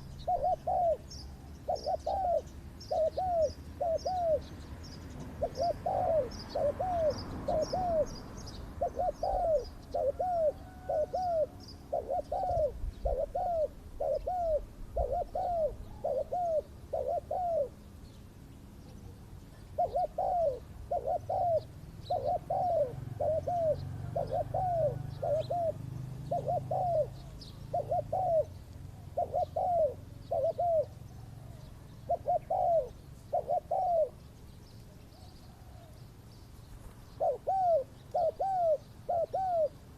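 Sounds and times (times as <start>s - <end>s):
dove cooing: 0.0s - 4.6s, 5.2s - 17.9s, 18.8s - 34.3s, 37.1s - 39.9s
small birds chirping: 0.0s - 39.9s.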